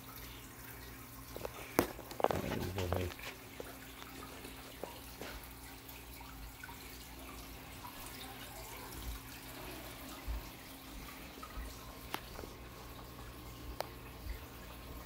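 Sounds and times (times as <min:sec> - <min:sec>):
small water drips: 0:00.0 - 0:15.0
water trickling: 0:00.0 - 0:15.0.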